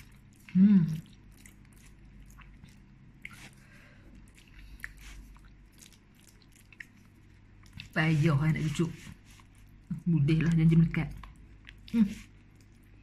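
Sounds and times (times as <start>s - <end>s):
chewing and mouth sounds: 0.0s - 13.0s.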